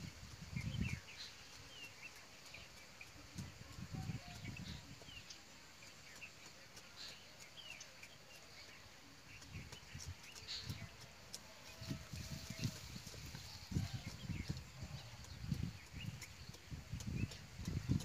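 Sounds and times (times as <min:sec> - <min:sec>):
quiet rural ambience: 0:00.0 - 0:18.0
small birds chirping: 0:00.0 - 0:18.0.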